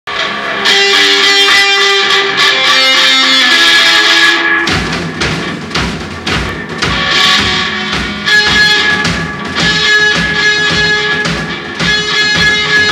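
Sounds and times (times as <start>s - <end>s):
drum kit heavy hits: 0.1s - 12.9s
electric guitar ringing notes: 0.1s - 12.9s.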